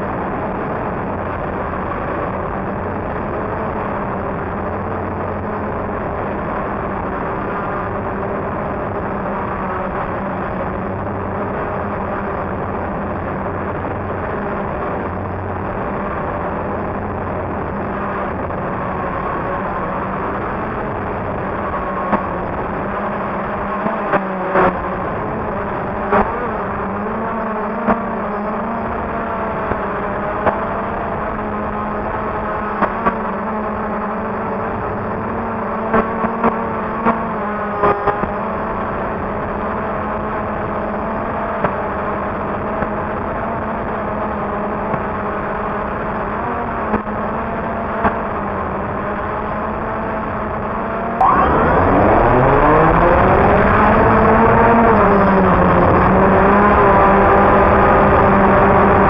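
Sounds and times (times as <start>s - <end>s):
drone propellers whirring: 0.1s - 59.0s.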